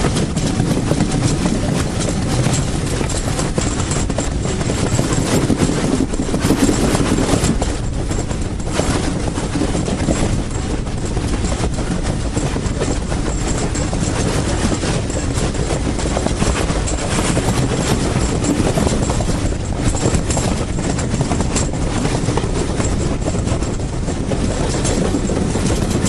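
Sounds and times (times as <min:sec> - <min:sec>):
steam train rumbling on rails: 0:00.0 - 0:26.0.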